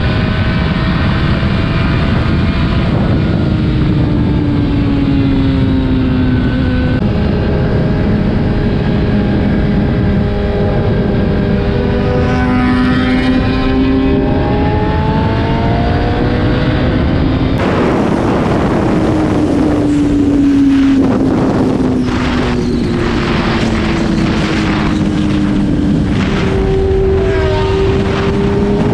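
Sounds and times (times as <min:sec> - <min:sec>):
motorcycle engine while riding: 0:00.0 - 0:28.9
wind buffeting microphone: 0:00.0 - 0:28.9.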